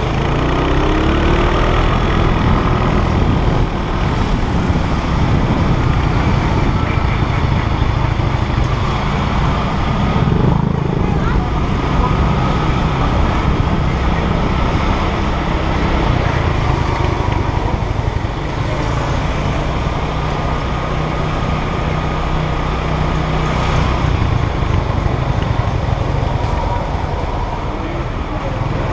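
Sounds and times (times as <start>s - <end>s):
traffic rumble: 0.0s - 28.9s.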